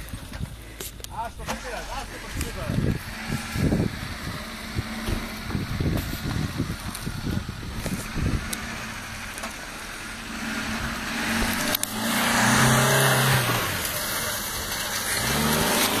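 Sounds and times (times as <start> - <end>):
engine pulling under load: 0.0 - 16.0
tyres crunching over stones: 0.0 - 16.0.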